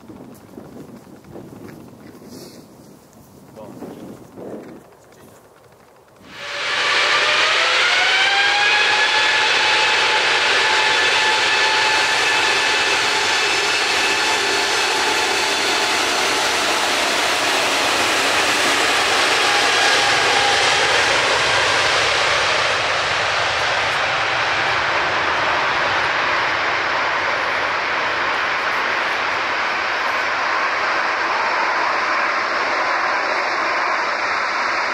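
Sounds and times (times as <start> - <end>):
jet engine whine: 0.0 - 34.9
rushing jet noise: 6.2 - 34.9.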